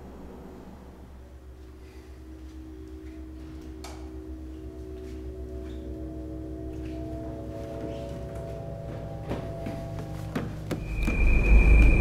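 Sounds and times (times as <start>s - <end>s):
low steady drone: 0.0s - 12.0s
held ringing tones: 1.3s - 12.0s.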